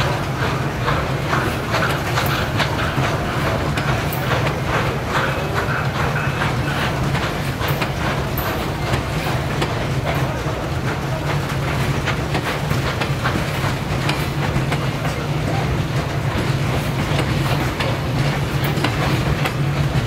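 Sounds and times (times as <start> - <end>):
steam train low rumble: 0.0 - 20.0
wagons knocking and clattering: 0.0 - 20.0.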